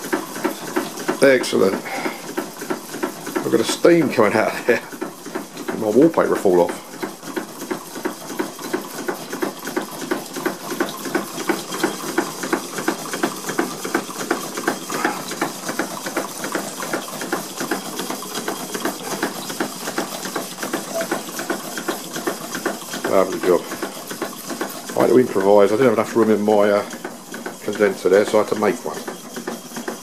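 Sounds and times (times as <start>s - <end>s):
steam engines chuffing: 0.0s - 30.0s.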